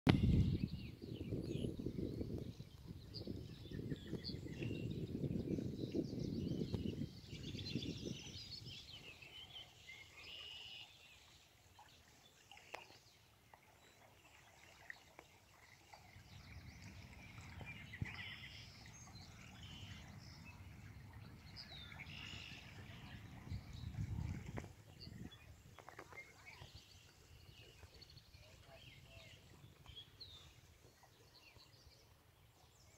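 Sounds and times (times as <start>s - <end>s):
birds chirping: 0.2s - 11.3s, 15.5s - 32.9s.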